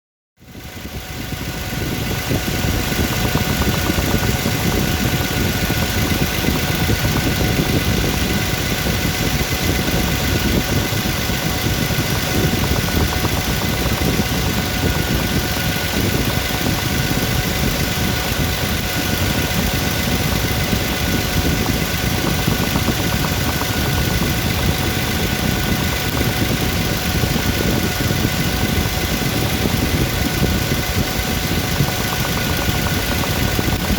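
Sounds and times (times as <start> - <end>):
engine idling with knock: 0.5 - 33.9.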